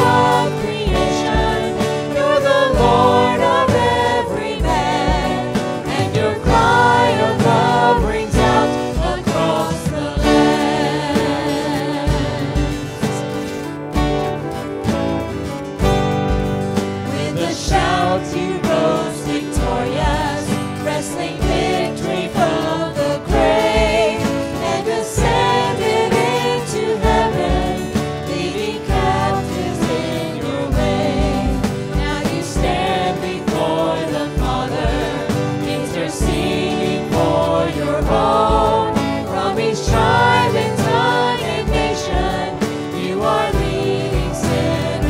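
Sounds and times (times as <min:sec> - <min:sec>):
group singing a hymn: 0:00.0 - 0:13.7, 0:16.8 - 0:45.0
piano accompaniment: 0:00.0 - 0:45.0.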